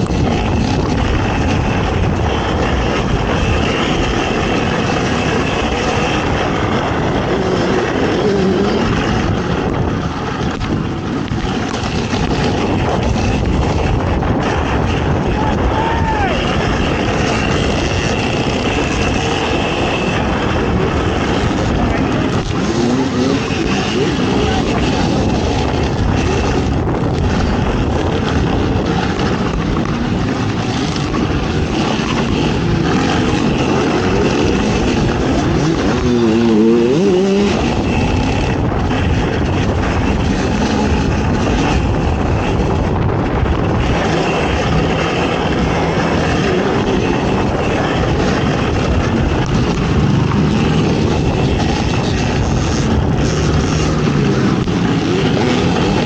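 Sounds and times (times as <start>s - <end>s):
atv engine running hard: 0.0s - 56.0s.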